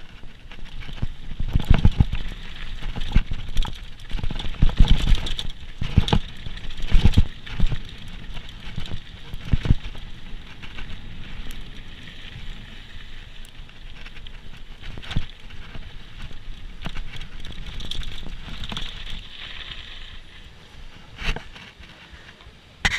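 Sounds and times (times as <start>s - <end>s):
bike clattering over bumps: 0.0s - 12.6s, 13.5s - 22.0s
mountain bike tyres crunching on dirt: 0.0s - 22.9s.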